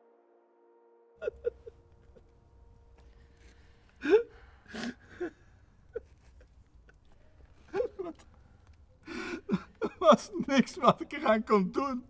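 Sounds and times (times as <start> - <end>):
man sobbing and wailing: 1.2 - 3.2, 3.9 - 12.0.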